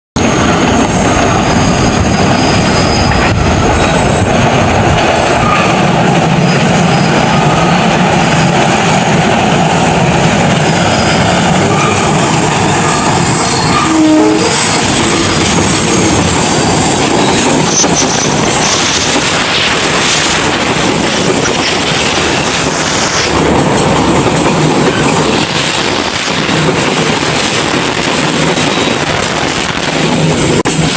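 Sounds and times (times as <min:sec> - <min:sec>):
train rumbling on track: 0:00.2 - 0:30.9.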